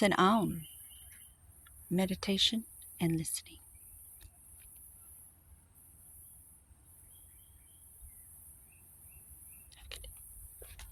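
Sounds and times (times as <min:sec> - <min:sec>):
high insect hiss: 0:00.6 - 0:10.8.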